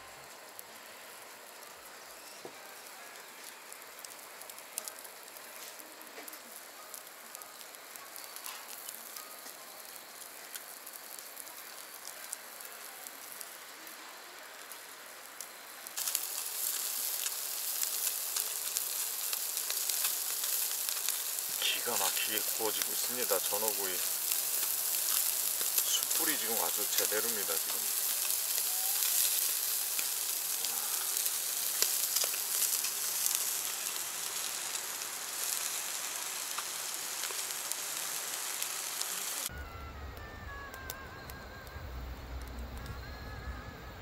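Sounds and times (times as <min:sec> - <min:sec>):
fish sizzling on grill: 0:00.0 - 0:43.2
fire crackling and popping: 0:00.1 - 0:44.0.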